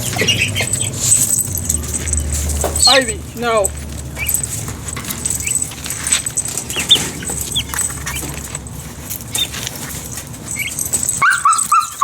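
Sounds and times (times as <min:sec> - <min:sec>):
metal parts clinking and rattling: 0:00.0 - 0:12.0
small birds chirping: 0:00.0 - 0:12.0.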